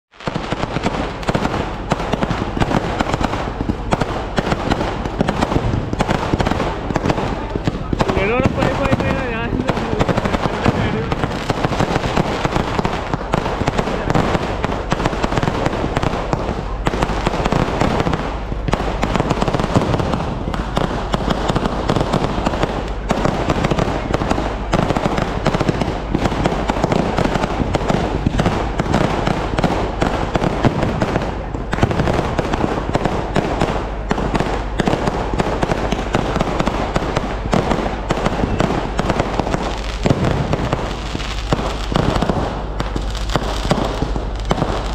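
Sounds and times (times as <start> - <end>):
fireworks rapid bangs: 0.1 - 44.9.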